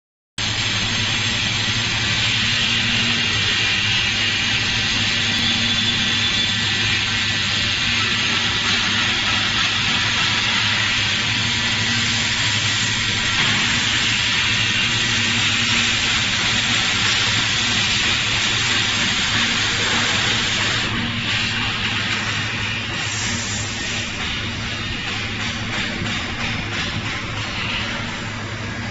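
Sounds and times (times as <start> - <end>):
laser welder hissing: 0.4 - 28.5.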